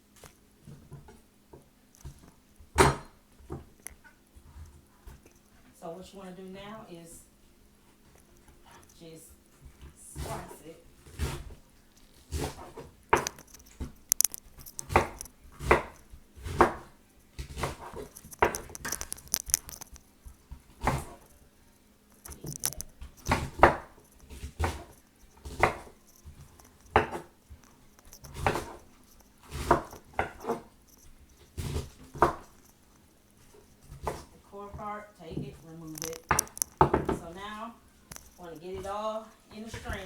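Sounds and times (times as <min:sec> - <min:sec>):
knife chopping cabbage on board: 0:00.6 - 0:05.2, 0:09.6 - 0:21.3, 0:22.3 - 0:32.6, 0:33.4 - 0:40.0.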